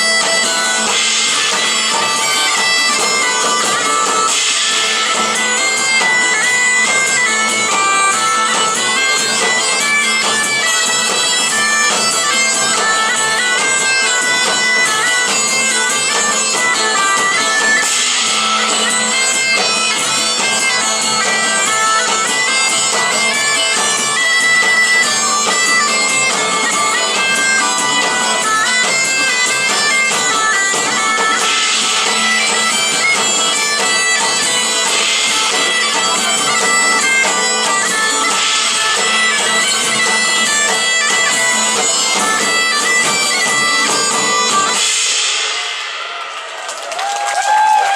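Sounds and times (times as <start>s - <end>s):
bagpipes playing melody: 0.0s - 46.0s
drumming: 0.0s - 47.9s.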